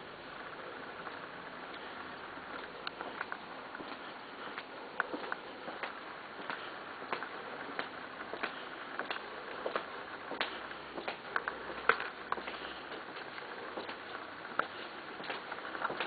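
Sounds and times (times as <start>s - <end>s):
faint steady hiss: 0.0s - 16.0s
footsteps on tiled floor: 1.0s - 16.0s.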